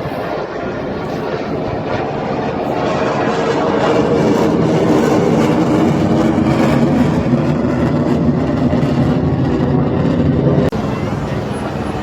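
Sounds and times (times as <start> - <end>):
jet aircraft engine: 0.0 - 12.0.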